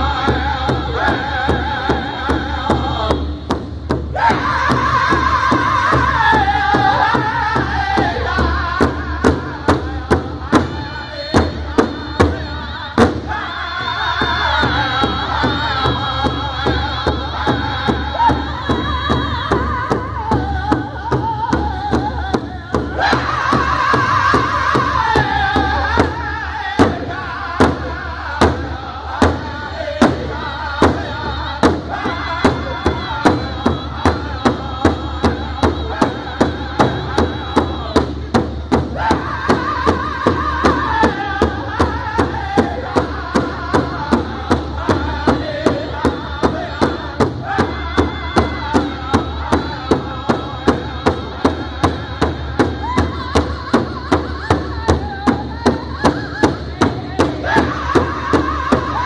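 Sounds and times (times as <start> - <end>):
group singing together: 0.0 - 59.0
large hide drum beat: 0.0 - 59.0.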